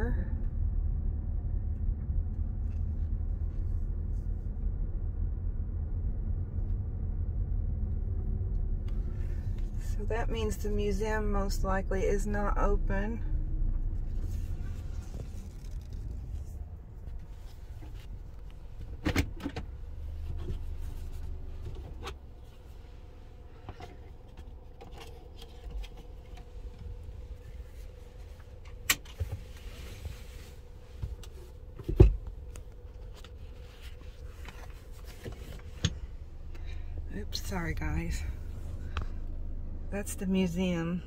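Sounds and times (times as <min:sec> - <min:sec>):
car engine rumble inside cabin: 0:00.0 - 0:41.0
faint hum: 0:00.0 - 0:41.0.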